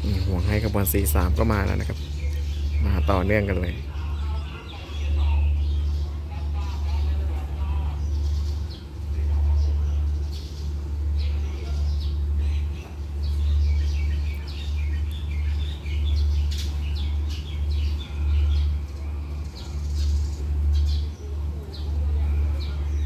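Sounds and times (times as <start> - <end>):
loud low rumble: 0.0 - 23.0
small birds chirping: 0.0 - 23.0.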